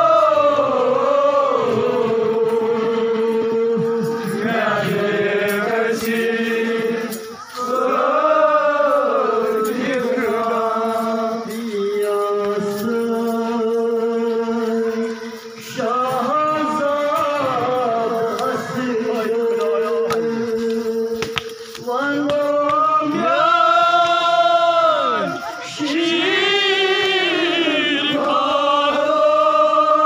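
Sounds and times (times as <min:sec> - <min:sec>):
men chanting a lament: 0:00.0 - 0:30.0.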